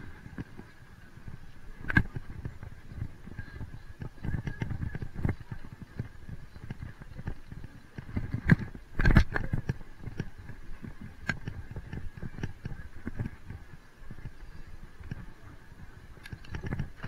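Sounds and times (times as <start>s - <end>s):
bike frame rattling and knocking: 0.0s - 15.3s
bike tyres rumbling on asphalt: 0.0s - 17.0s.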